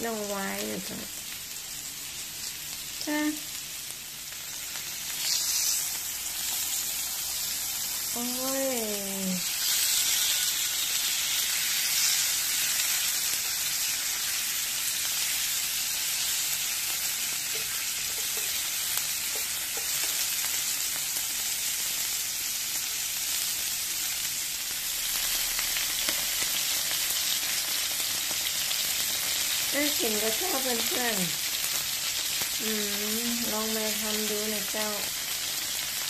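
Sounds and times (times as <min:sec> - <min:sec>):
food sizzling on a grill plate: 0:00.0 - 0:36.0.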